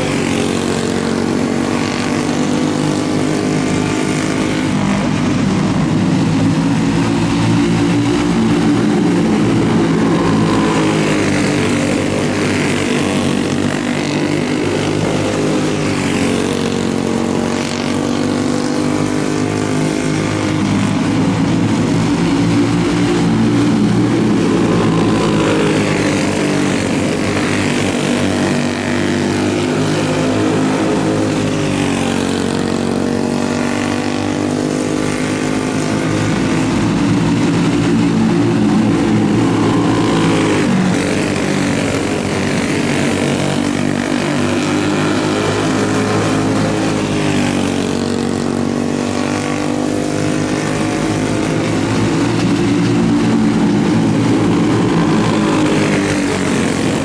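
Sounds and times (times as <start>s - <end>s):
racing kart engines: 0.0s - 57.0s.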